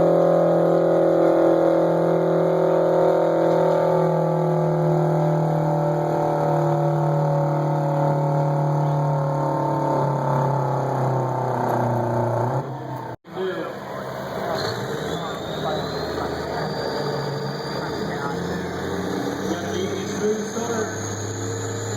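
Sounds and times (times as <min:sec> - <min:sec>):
tractor engine under load: 0:00.0 - 0:21.9.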